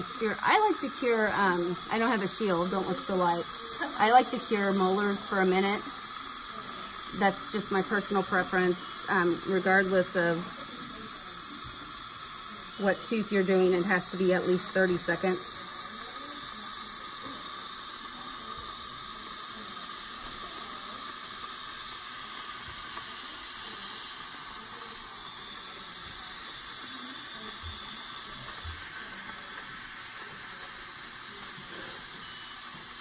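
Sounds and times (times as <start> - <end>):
dental suction hissing: 0.0 - 33.0.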